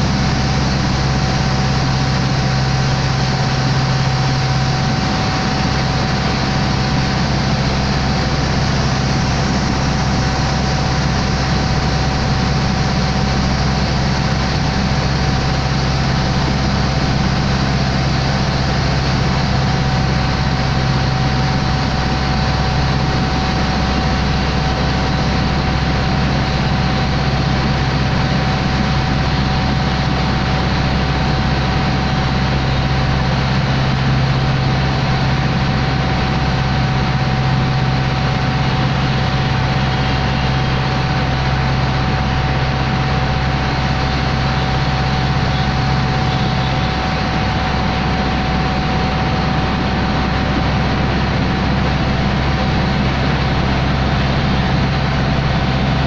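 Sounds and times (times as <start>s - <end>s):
boat engine droning: 0.0s - 56.0s
thin steady whine: 0.0s - 56.0s.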